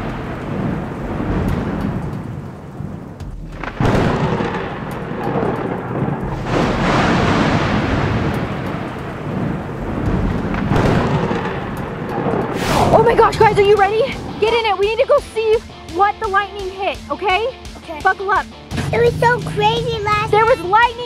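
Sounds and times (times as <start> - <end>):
loud thunder clap: 0.0 - 17.0
thunder rumbling: 0.0 - 21.0.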